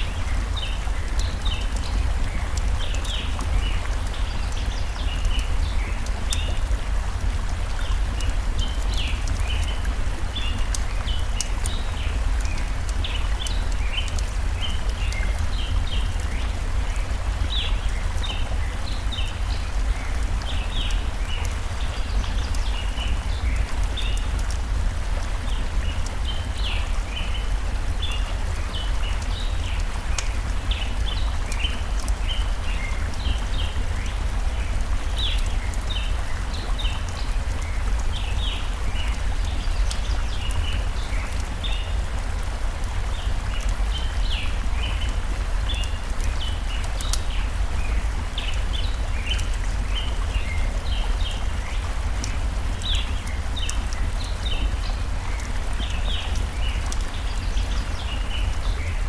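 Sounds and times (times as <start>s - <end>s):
campfire crackles: 0.0s - 59.0s
stream flowing: 0.0s - 59.0s.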